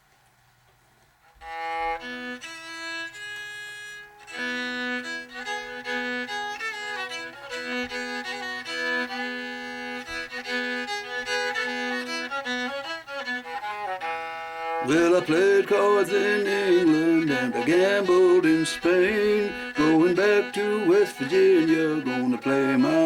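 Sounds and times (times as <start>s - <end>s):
bowed gourd fiddle: 1.4s - 23.0s.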